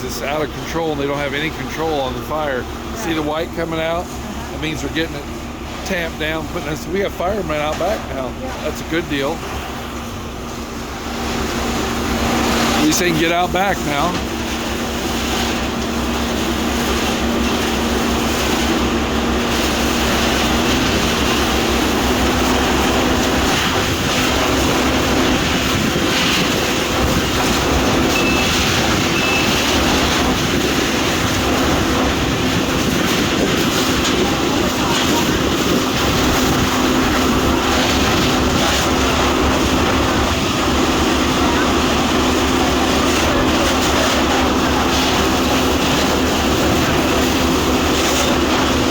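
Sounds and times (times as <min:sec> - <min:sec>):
truck engine and pump rumbling: 0:00.0 - 0:48.9.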